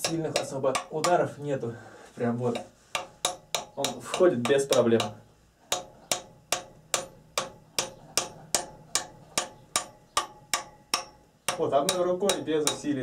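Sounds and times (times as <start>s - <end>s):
hammer tapping on a nail: 0.0s - 1.2s, 2.6s - 12.9s.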